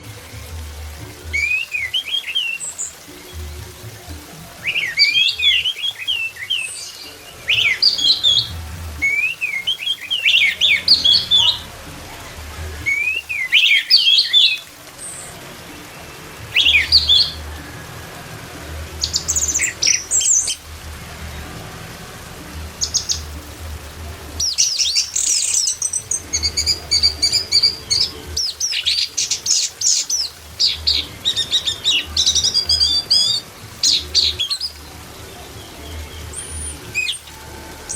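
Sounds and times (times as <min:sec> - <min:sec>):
thrush singing whistled notes: 0:00.0 - 0:37.9.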